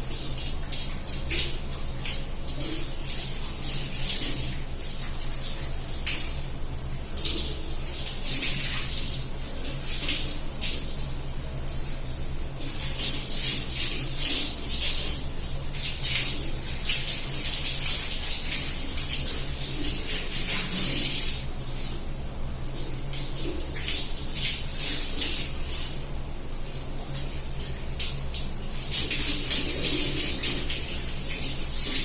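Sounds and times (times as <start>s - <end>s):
tap water splashing on hair: 0.0s - 26.0s, 26.6s - 32.0s.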